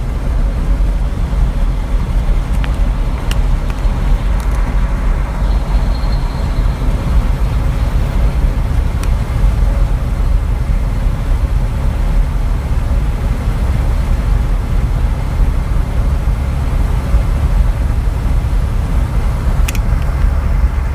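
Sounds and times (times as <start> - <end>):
truck driving on road: 0.0 - 20.9.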